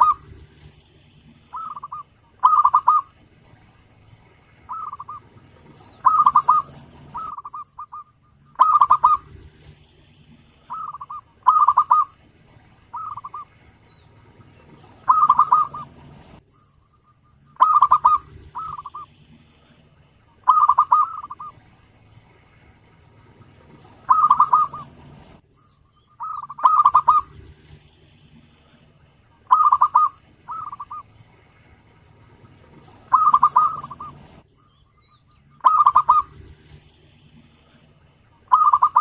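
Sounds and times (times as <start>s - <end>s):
dove cooing: 0.0s - 3.7s, 4.6s - 9.8s, 10.5s - 16.4s, 17.4s - 21.6s, 23.4s - 25.4s, 26.2s - 27.8s, 28.6s - 34.4s, 35.6s - 39.0s.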